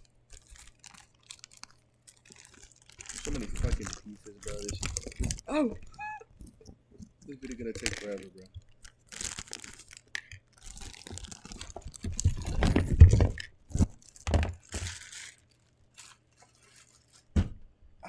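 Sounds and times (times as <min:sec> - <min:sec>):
small clicks and knocks: 0:00.0 - 0:15.4
packaging rustling and crinkling: 0:00.0 - 0:17.4.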